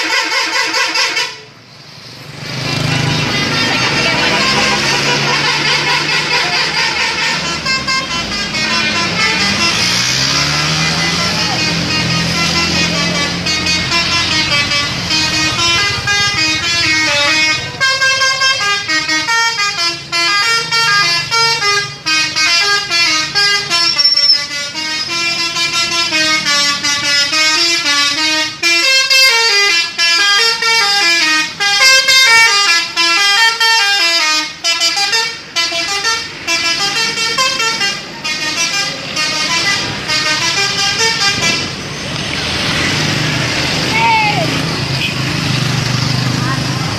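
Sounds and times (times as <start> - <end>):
multi-note bus air horns: 0.0 - 1.6, 2.8 - 41.8.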